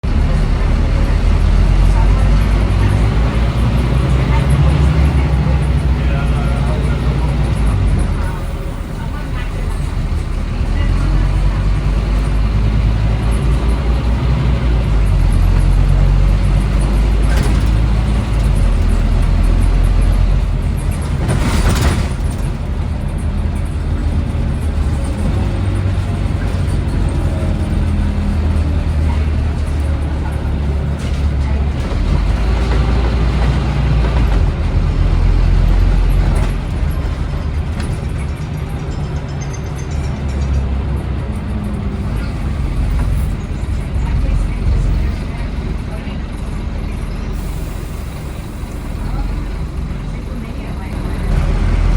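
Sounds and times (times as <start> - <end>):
bus engine running under load: 0.0 - 51.9.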